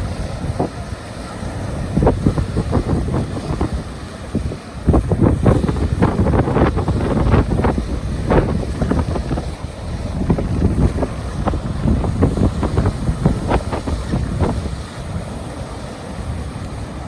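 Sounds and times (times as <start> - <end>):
river water crashing into waves: 0.0 - 17.0
wind buffeting microphone: 0.0 - 17.0.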